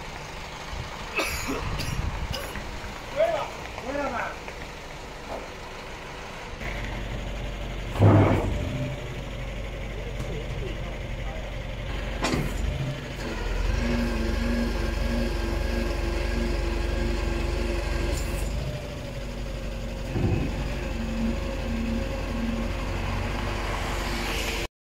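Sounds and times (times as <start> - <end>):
diesel engine idling: 0.0 - 24.7.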